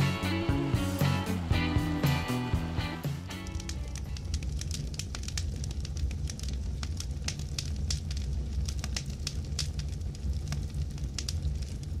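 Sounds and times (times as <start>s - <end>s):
fire crackling and popping: 0.0s - 12.0s
flames rumbling: 0.0s - 12.0s.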